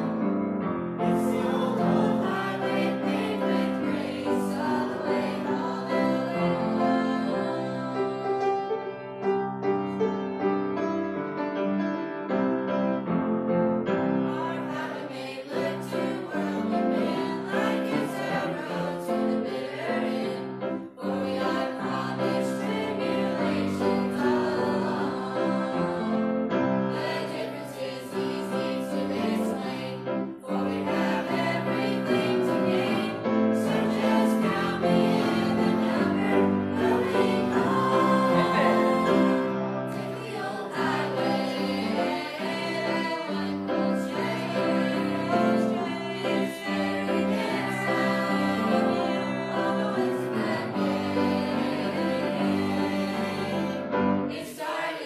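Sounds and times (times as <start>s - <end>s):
group singing gospel song: 1.0s - 8.7s, 14.0s - 55.0s.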